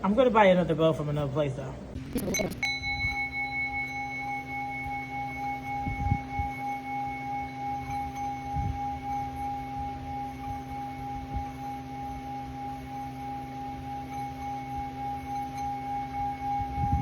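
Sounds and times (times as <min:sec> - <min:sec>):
singing bowl ringing: 0:02.3 - 0:17.0.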